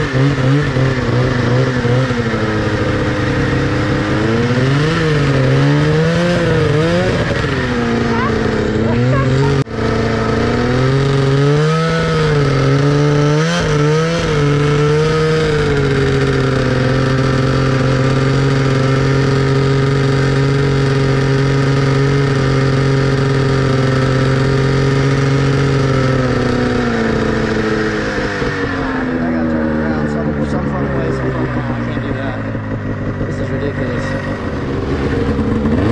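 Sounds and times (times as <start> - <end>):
snowmobile engine running: 0.0 - 35.9.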